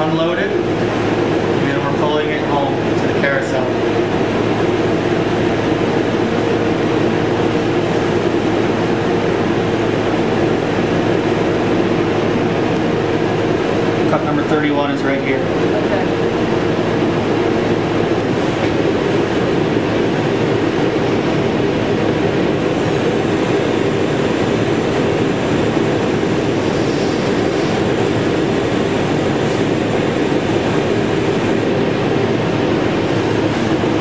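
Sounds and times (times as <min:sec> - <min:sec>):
air-handling hiss and hum: 0:00.0 - 0:34.0.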